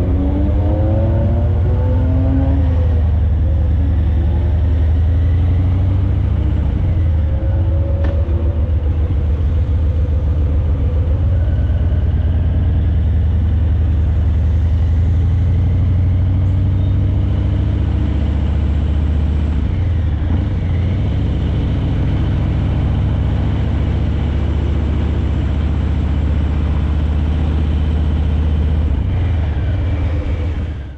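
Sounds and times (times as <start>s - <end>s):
motorcycle exhaust rumbling: 0.0s - 30.9s.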